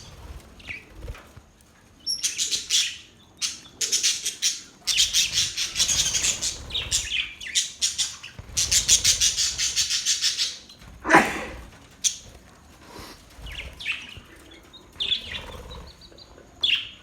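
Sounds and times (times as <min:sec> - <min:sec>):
budgerigars chattering and warbling: 0:02.0 - 0:17.0.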